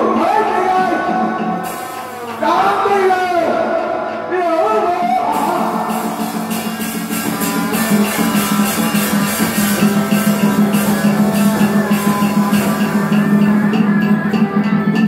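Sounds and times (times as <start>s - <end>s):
percussion strikes: 0.0s - 15.0s.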